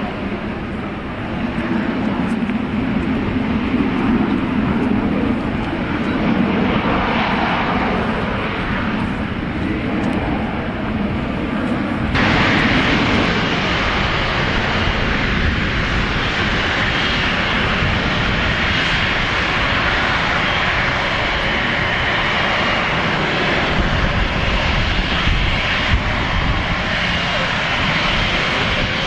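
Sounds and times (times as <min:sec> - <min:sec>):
airliner engines roaring: 0:00.0 - 0:29.0.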